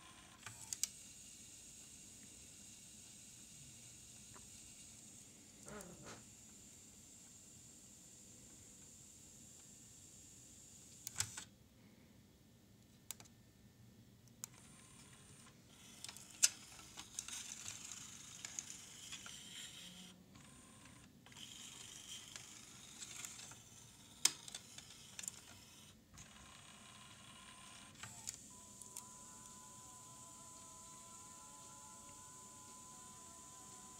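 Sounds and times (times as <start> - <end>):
small motor and gears whirring: 0.0 - 11.5, 14.4 - 33.9.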